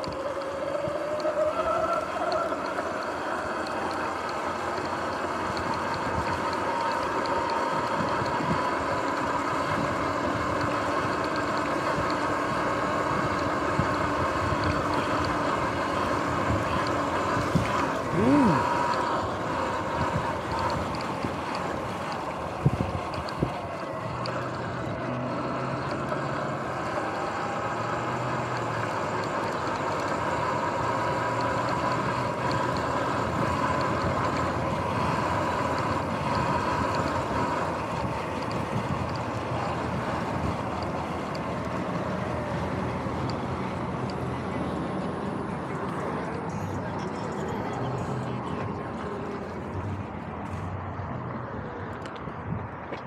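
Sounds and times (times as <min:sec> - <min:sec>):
electric motor whine: 0:00.0 - 0:52.3
rumbling ride noise: 0:00.0 - 0:53.0.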